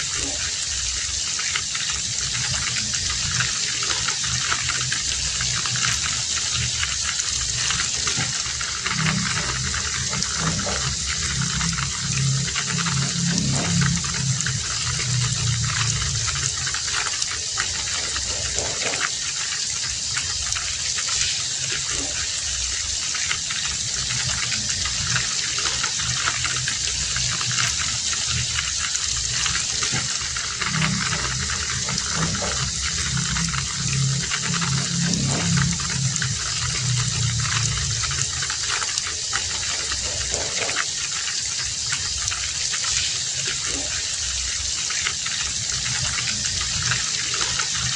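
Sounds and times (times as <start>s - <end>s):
heavy rain hiss: 0.0s - 47.9s
raindrop hits: 0.2s - 47.9s.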